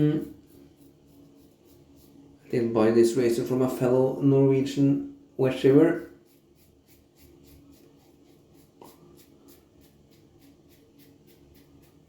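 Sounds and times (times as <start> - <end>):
razor scraping stubble: 0.0 - 3.6, 5.6 - 12.0.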